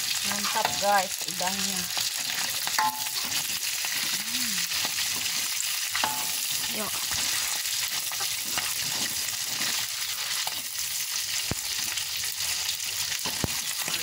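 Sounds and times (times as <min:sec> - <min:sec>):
shrimp sizzling in hot oil: 0:00.0 - 0:14.0
metal utensil scraping a pan: 0:00.2 - 0:10.8, 0:13.1 - 0:14.0.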